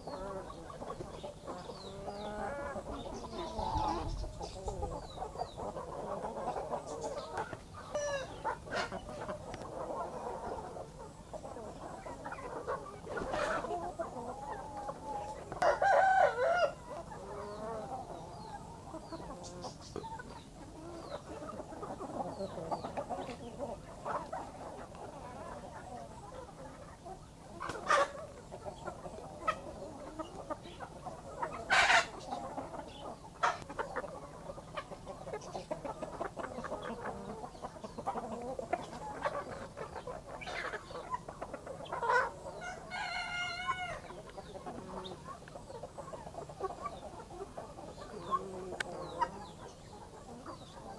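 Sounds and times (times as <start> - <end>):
chicken squawks: 0.0 - 44.1
chickens clucking: 0.0 - 50.9.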